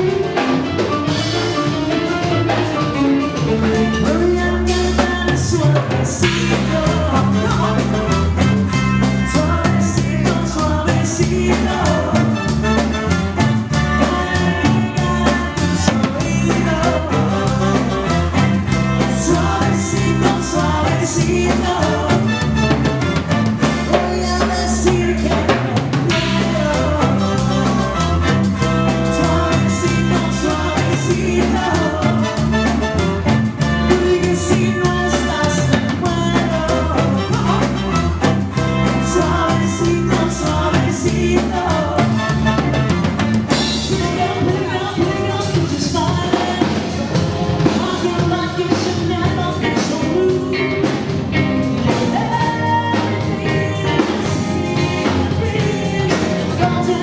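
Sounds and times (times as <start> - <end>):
bass line: 0.0 - 57.0
drum kit: 0.0 - 57.0
person singing: 0.0 - 57.0.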